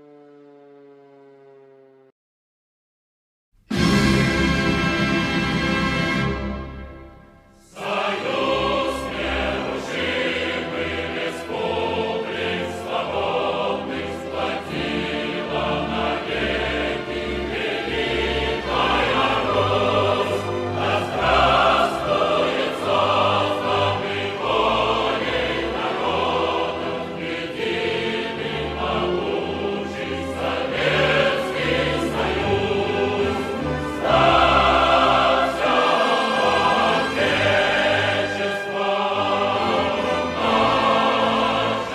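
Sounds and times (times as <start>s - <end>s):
choir singing with accompaniment: 3.7s - 41.9s.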